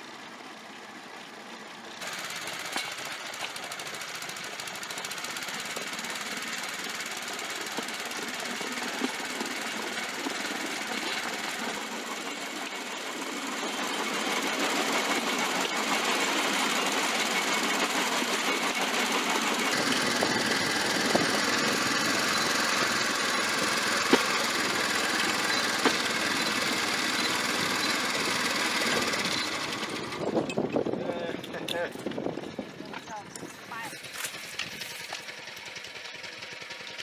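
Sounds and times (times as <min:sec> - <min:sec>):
small petrol engine running: 0:00.0 - 0:37.0
cart clattering on rails: 0:02.0 - 0:36.4.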